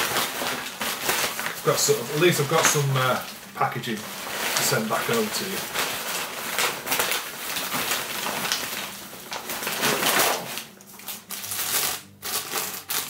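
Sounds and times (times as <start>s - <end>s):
paper and plastic bag crinkling: 0.0s - 13.0s.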